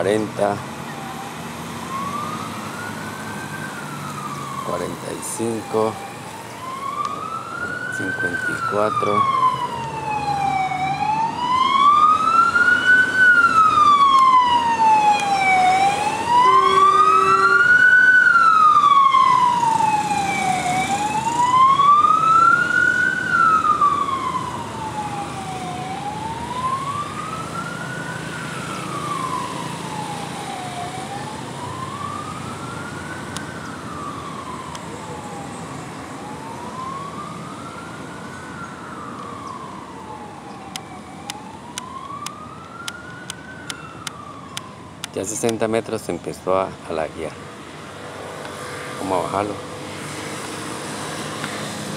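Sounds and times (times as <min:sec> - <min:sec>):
siren wailing: 0:00.2 - 0:45.5.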